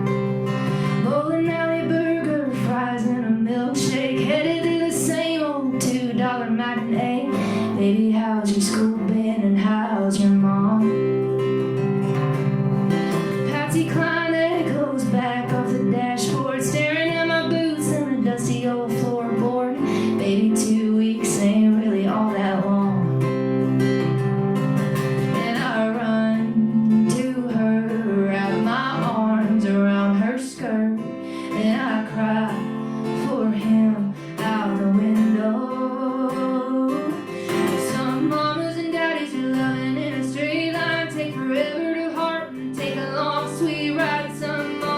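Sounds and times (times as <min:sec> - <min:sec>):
woman singing: 0:00.0 - 0:24.0, 0:25.1 - 0:44.9
strummed acoustic guitar: 0:00.0 - 0:44.9.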